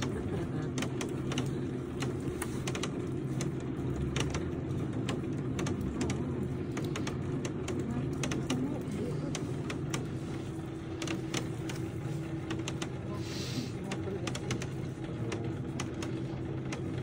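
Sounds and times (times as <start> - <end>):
sharp mechanical clicks: 0.0 - 13.1, 13.8 - 17.0
cable lift mechanical hum: 0.0 - 17.0.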